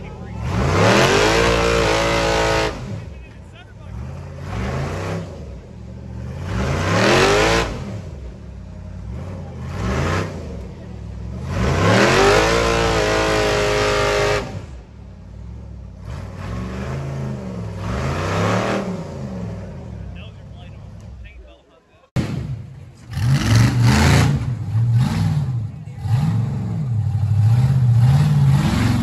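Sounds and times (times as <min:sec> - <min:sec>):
buggy engine revving hard: 0:00.0 - 0:20.2, 0:22.2 - 0:29.0.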